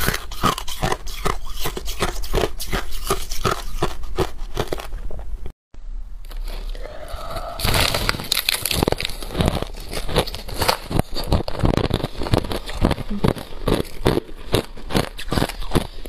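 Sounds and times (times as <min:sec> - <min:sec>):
crushed ice being chewed: 0:00.0 - 0:05.2, 0:06.3 - 0:16.0.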